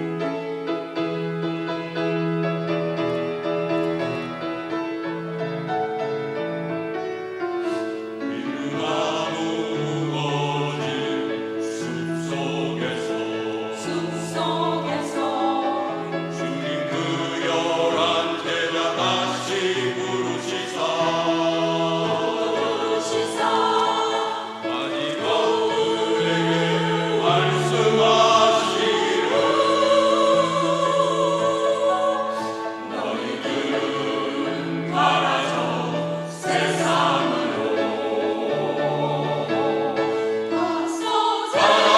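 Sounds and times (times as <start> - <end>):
church choir singing: 0.0 - 41.9.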